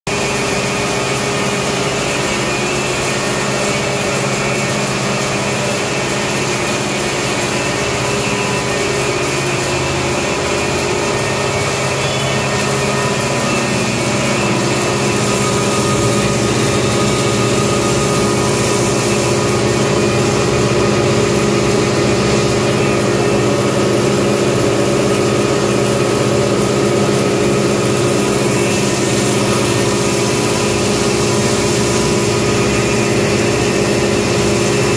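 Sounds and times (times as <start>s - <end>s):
pulverizer machine hum and whine: 0.1s - 34.9s.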